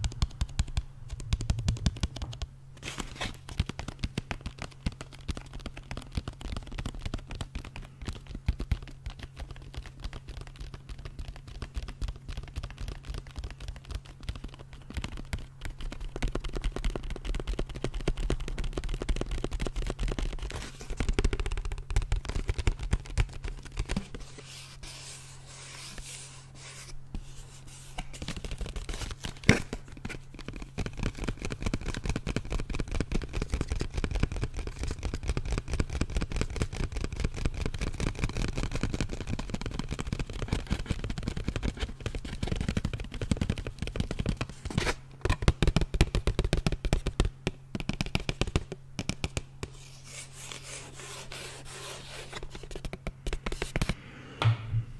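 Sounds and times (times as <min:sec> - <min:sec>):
fingers crinkling plastic blister pack: 0:00.0 - 0:24.5, 0:28.1 - 0:53.8.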